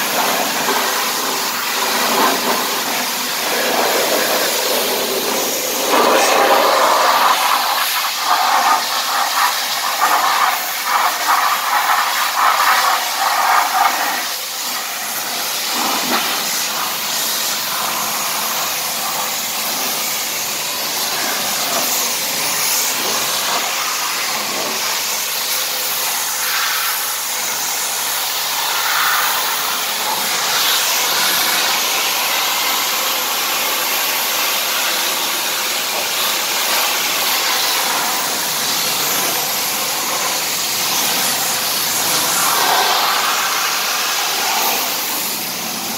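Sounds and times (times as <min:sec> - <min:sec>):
pressure washer water spray hissing: 0:00.0 - 0:45.9.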